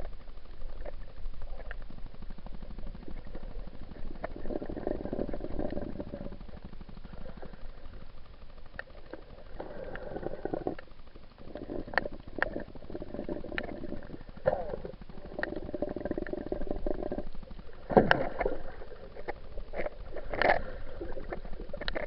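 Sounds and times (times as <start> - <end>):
sharp clicks underwater: 0.0 - 22.0
underwater bubbling water: 0.0 - 22.0.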